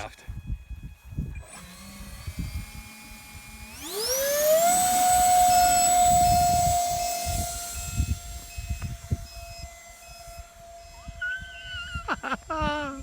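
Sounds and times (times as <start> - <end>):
model plane motor whine: 0.3 - 13.0.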